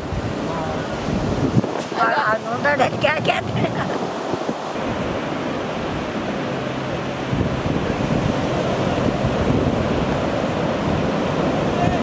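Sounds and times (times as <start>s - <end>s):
sea surf breaking on beach: 0.0s - 12.0s.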